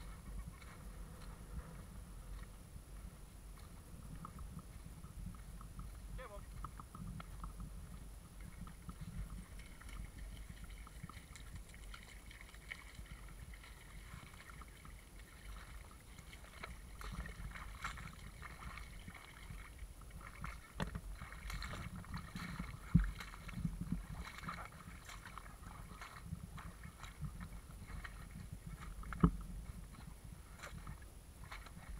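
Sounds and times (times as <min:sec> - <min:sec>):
faint crackles and clicks: 0:00.0 - 0:31.9
low wind rumble on microphone: 0:00.0 - 0:31.9.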